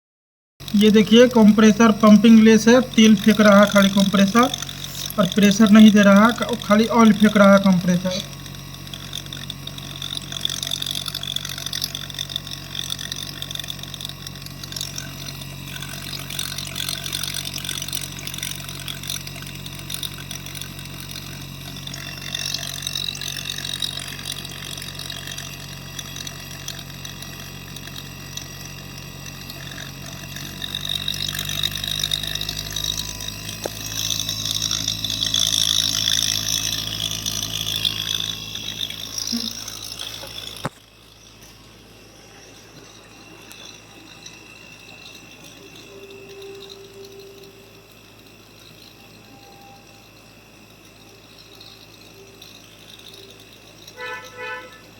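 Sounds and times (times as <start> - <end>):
refrigerator compressor humming: 0.6 - 54.9.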